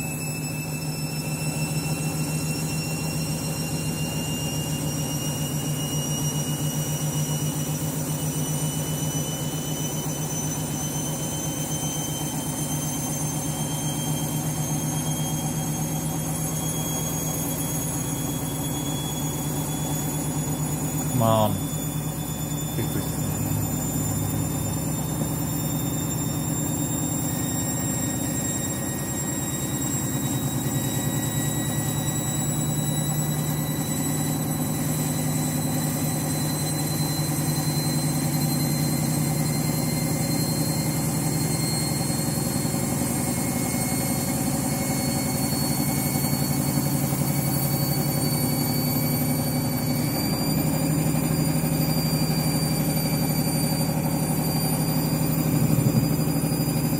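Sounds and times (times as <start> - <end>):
washing machine spinning: 0.0 - 56.9.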